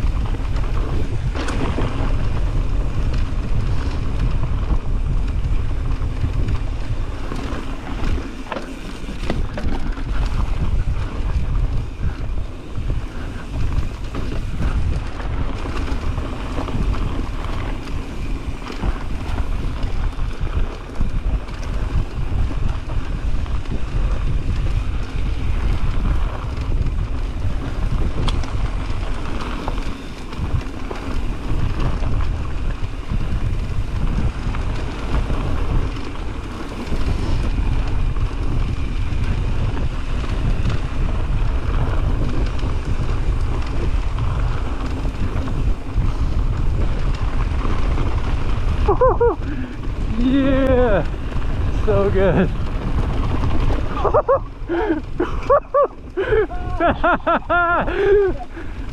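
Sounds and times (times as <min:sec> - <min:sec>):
bike rattling over bumps: 0:00.0 - 0:58.9
tyres rolling on dirt: 0:00.0 - 0:58.9
wind buffeting microphone: 0:00.0 - 0:58.9.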